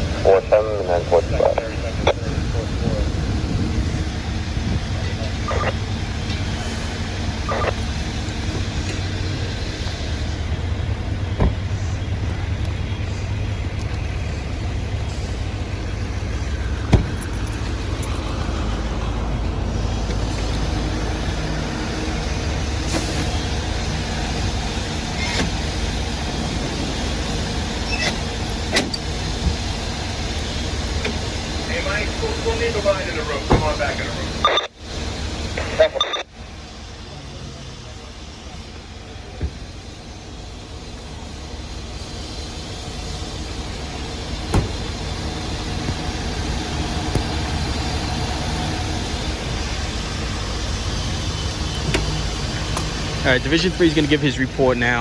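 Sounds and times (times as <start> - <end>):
fire truck engine rumble: 0.0 - 55.0.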